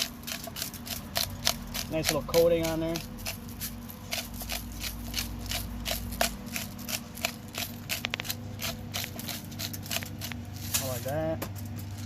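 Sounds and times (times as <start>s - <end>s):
spice grinder crunching clicks: 0.0s - 10.4s.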